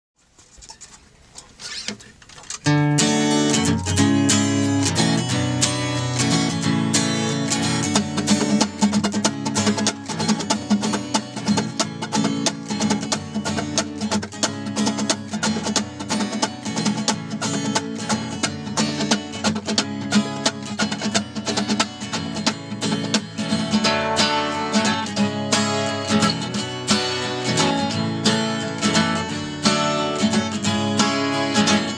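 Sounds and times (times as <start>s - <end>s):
acoustic guitar strumming: 1.6s - 31.9s.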